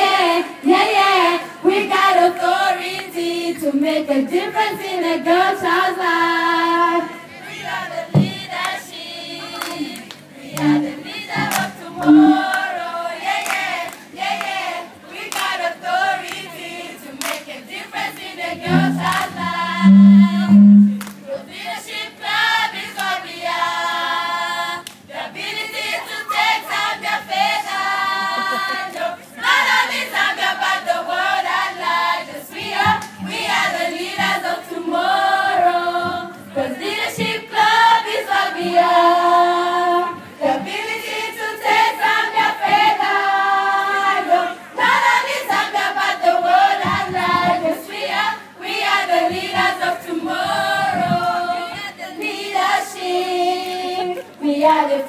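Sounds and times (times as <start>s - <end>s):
girls choir singing: 0.0s - 55.0s.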